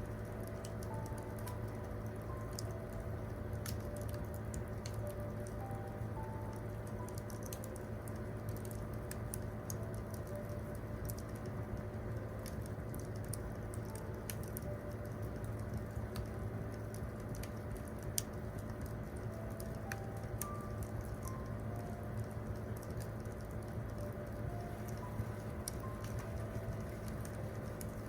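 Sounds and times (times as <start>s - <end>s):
campfire crackling and popping: 0.0s - 28.0s
soft piano notes: 0.0s - 28.0s.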